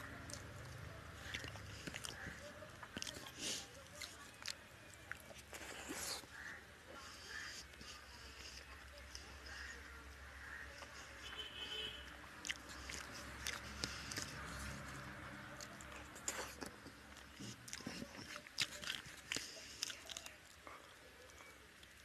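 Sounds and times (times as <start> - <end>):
person chewing with wet smacks: 0.0 - 22.0.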